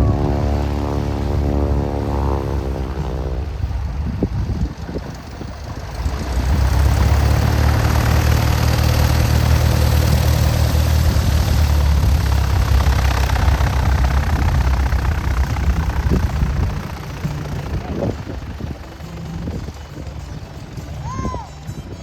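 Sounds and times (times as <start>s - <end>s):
propeller plane engine running: 0.0s - 22.0s.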